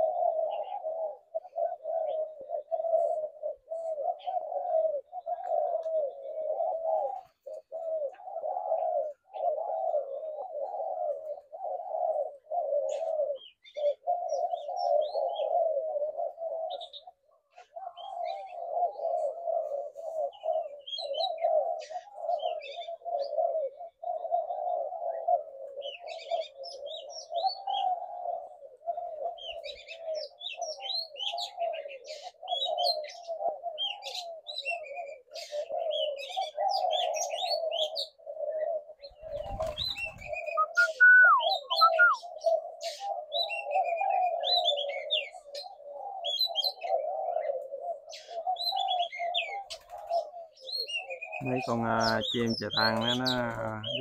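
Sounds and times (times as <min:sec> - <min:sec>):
doves cooing: 0:00.0 - 0:54.0
small birds chirping: 0:00.0 - 0:54.0.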